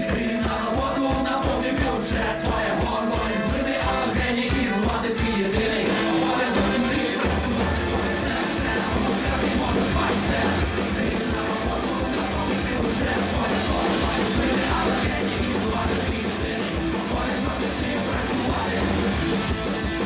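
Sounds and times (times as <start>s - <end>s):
backing vocals: 0.0s - 20.0s
electric guitar: 0.0s - 20.0s.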